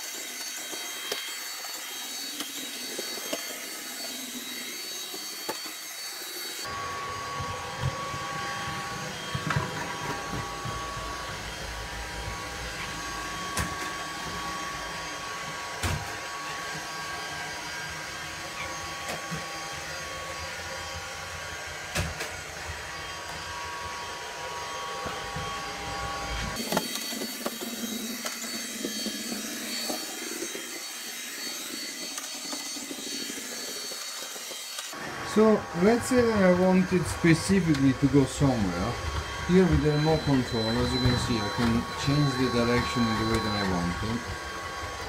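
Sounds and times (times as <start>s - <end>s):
robot vacuum cleaner running: 0.0s - 45.0s.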